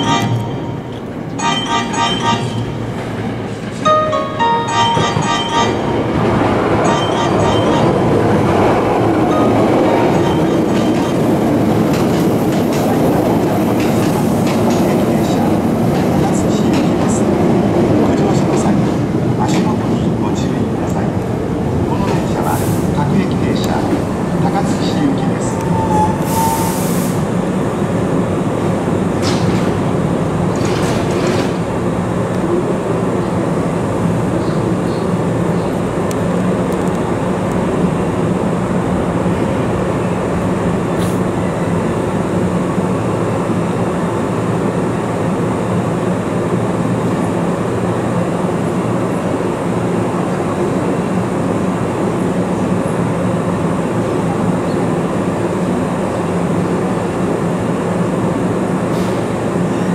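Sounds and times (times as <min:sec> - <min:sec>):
electric train rumble and hum: 0:00.0 - 0:59.9.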